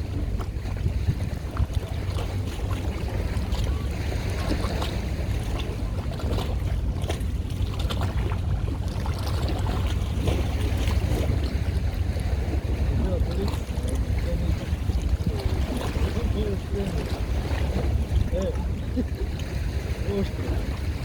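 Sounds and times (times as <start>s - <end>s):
boat engine rumbling: 0.0s - 21.0s
wind noise on microphone: 0.0s - 21.0s.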